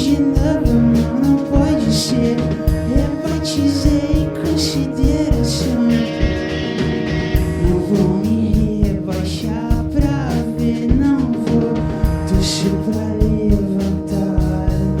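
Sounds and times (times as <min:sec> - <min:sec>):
person singing: 0:00.0 - 0:15.0
rock band playing live: 0:00.0 - 0:15.0.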